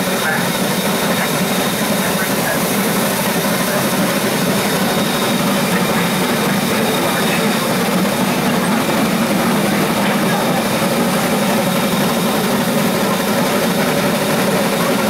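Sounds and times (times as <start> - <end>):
steam locomotive running: 0.0 - 15.0.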